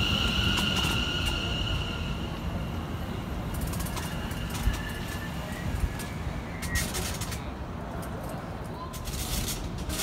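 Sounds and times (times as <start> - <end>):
train rumbling slowly: 0.0 - 10.0.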